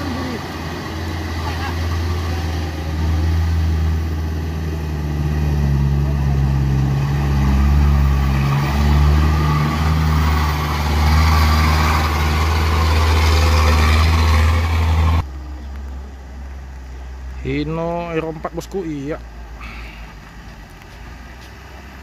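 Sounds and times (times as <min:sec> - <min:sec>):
diesel truck driving past: 0:00.0 - 0:22.0
road noise: 0:00.0 - 0:22.0.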